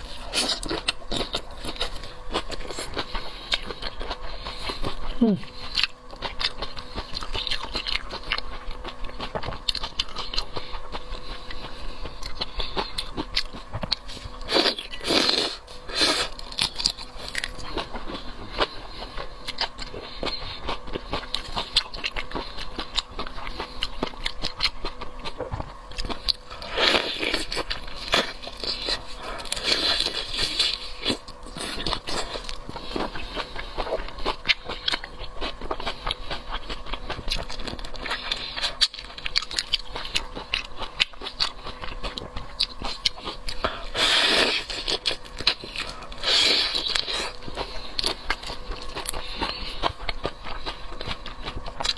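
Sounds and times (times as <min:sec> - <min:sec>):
chewing and biting shrimp: 0:00.0 - 0:51.9.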